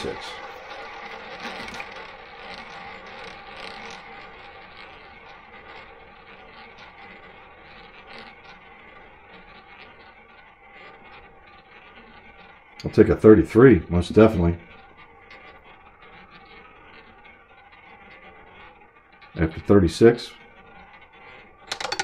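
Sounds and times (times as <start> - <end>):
roulette ball whirring: 0.0 - 22.0.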